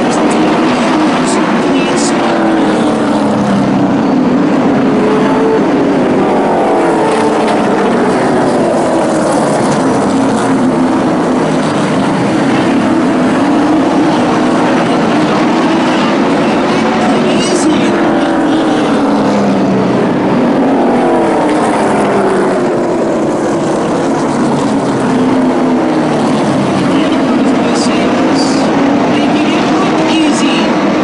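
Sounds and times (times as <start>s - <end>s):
truck engines racing at full throttle: 0.0s - 31.0s.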